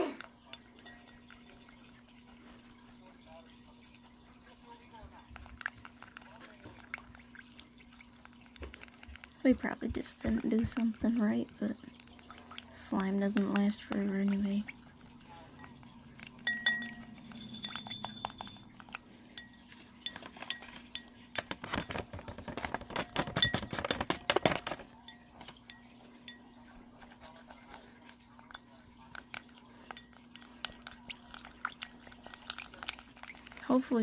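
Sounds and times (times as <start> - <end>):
spoon clinking on glass bowl: 0.2 - 34.0.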